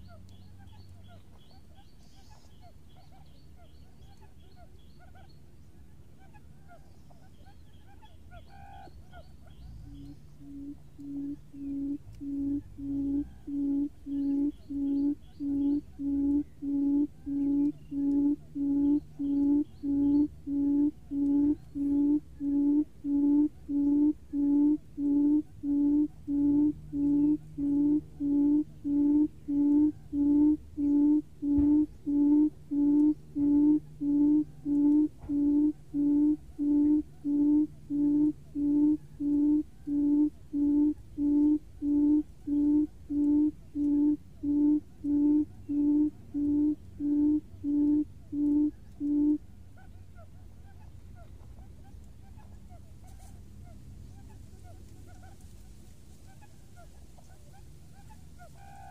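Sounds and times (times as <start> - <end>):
low hollow hoots: 6.1 - 55.4, 56.3 - 58.9.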